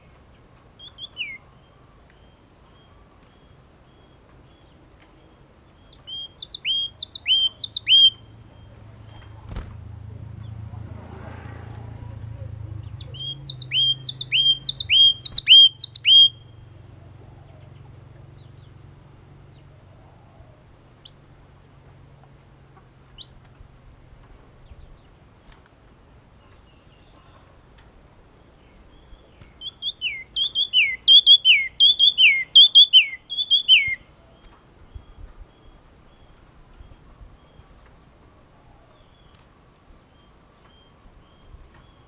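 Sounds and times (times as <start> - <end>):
bird singing: 0.0 - 10.7, 12.0 - 22.2, 26.4 - 42.0.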